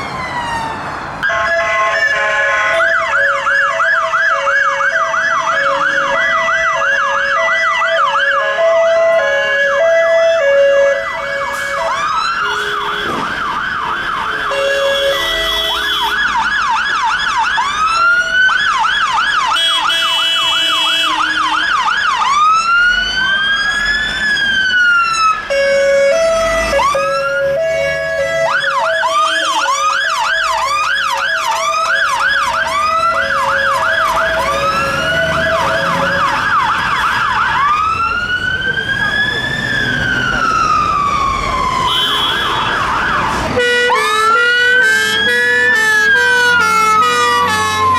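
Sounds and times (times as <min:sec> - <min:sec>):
fast yelp siren: 0:00.0 - 0:47.9
slow wail siren: 0:00.0 - 0:47.9
two-tone hi-lo siren: 0:00.0 - 0:47.9.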